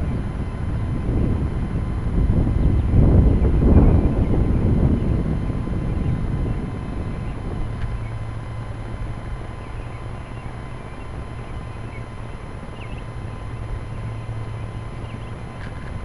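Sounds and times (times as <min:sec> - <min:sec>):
air rushing over camera: 0:00.0 - 0:16.0
model aircraft engine humming: 0:00.0 - 0:16.0.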